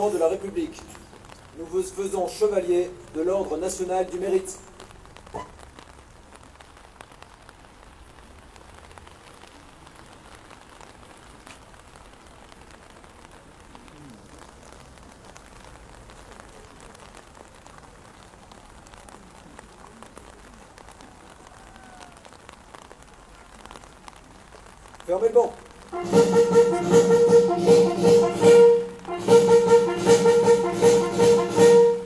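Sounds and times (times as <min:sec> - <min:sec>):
light rain falling: 0:00.0 - 0:32.0
raindrops ticking on umbrellas: 0:00.0 - 0:32.0.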